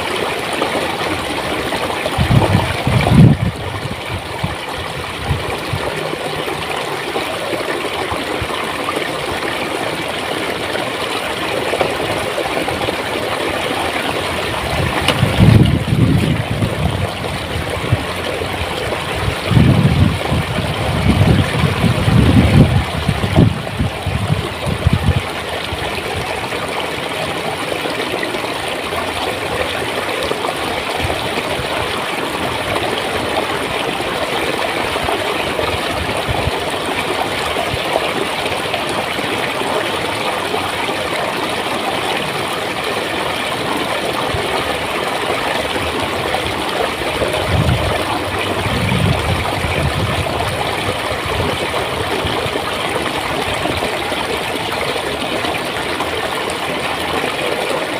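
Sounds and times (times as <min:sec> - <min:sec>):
low rumbling water surges: 0:00.0 - 0:57.9
stream water flowing and gurgling: 0:00.0 - 0:57.9.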